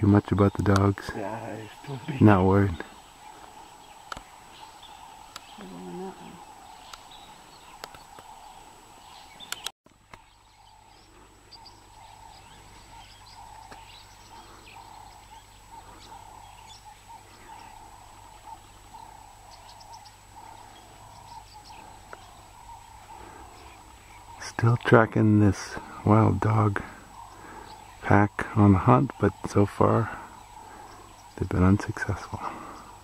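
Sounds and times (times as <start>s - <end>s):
bird chirps: 0.0s - 33.0s
steady hum: 0.3s - 33.0s.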